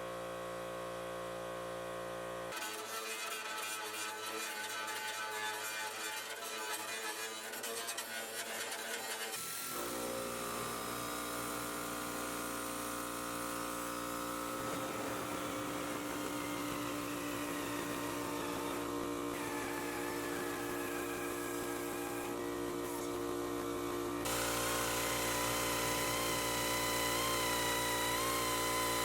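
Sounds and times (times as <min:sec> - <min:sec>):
power tool humming: 0:00.1 - 0:29.0.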